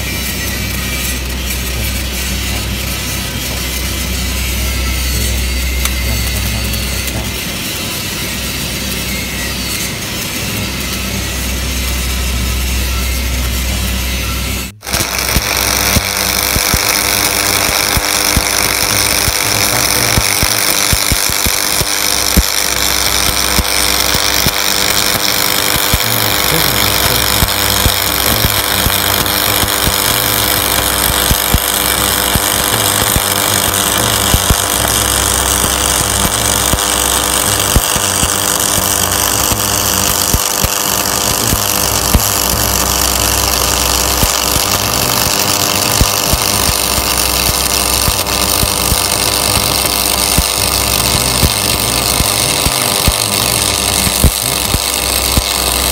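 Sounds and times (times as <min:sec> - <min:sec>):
welding arc crackling: 0:00.0 - 0:55.9.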